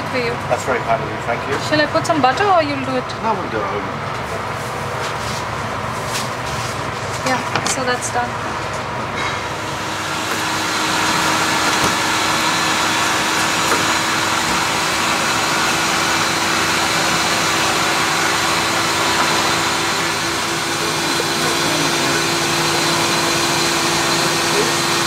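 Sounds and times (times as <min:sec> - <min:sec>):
kitchen ventilation fan rushing: 0:00.0 - 0:25.0.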